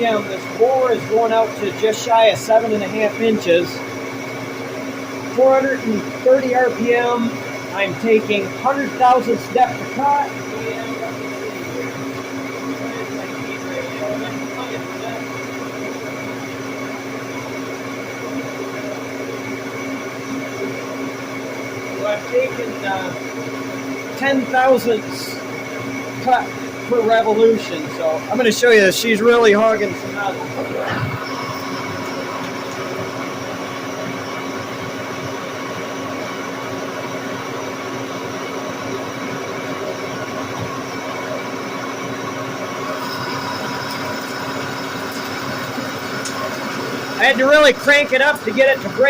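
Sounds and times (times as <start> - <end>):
lathe drone with high whine: 0.0 - 49.0.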